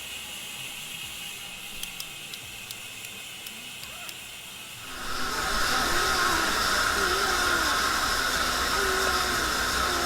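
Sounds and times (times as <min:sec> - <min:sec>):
steady mechanical hiss: 0:00.0 - 0:10.0.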